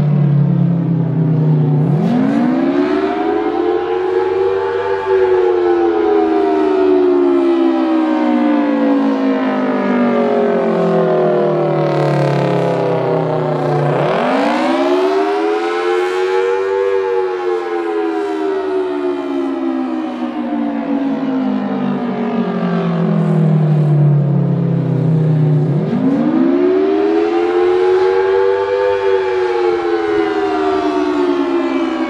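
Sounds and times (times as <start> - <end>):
dual-tone civil defense siren: 0.0 - 32.0.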